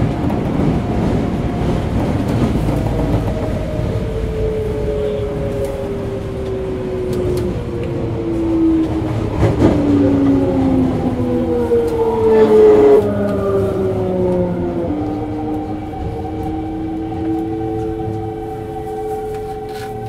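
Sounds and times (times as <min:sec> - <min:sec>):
wheel and rail running noise: 0:00.0 - 0:20.0.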